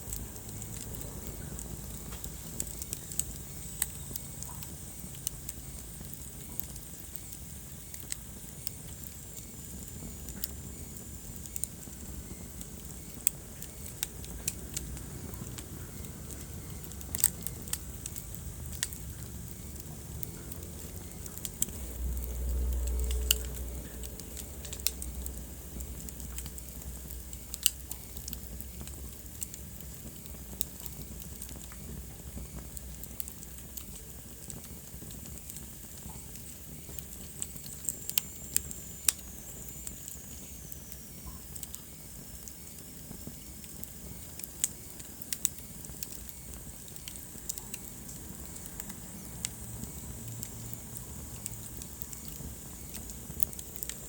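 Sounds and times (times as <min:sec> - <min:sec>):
fire crackles and pops: 0:00.0 - 0:54.0
fire rumble and hiss: 0:00.0 - 0:54.0.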